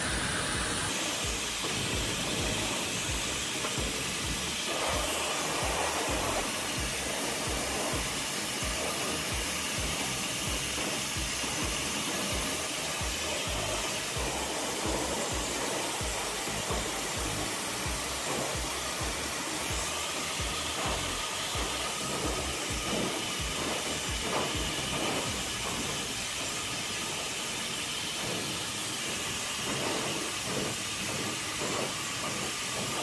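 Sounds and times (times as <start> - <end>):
hair dryer blowing: 0.0 - 33.0.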